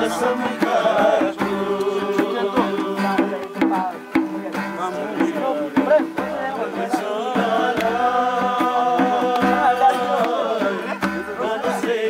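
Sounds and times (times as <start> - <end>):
strummed acoustic guitar: 0.0 - 12.0
voices singing: 0.0 - 12.0.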